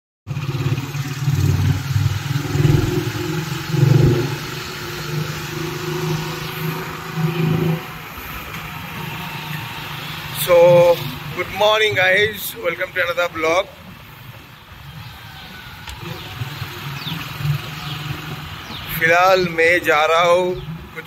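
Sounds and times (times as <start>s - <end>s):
motor vehicle engine running: 0.3s - 21.0s
traffic noise: 0.3s - 21.0s.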